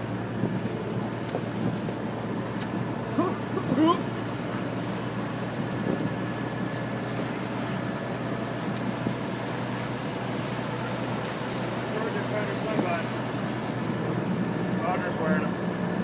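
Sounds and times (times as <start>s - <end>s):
motor boat engine droning: 0.0s - 16.0s
wake churning along hull: 0.0s - 16.0s.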